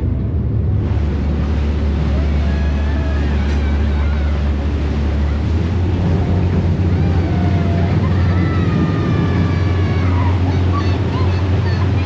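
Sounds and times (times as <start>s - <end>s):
churning propeller wash: 0.0s - 12.0s
diesel engines rumbling: 0.0s - 12.0s.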